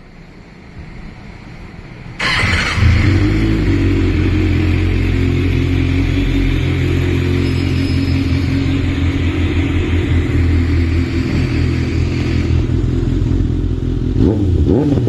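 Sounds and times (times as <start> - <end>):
motorcycle engine starting: 2.2 - 15.0
motorcycle raspy exhaust running: 2.2 - 15.0.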